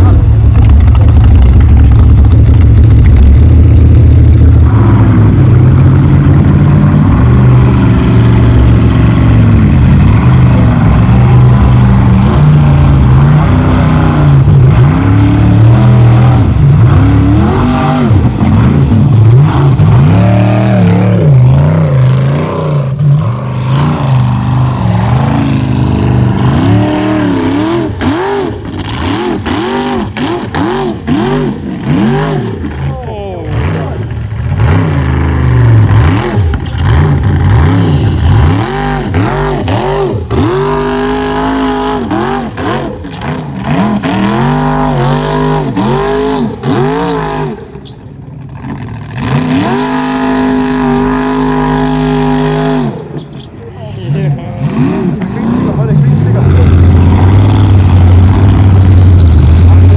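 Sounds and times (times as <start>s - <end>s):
truck engine revving hard: 0.0s - 59.9s.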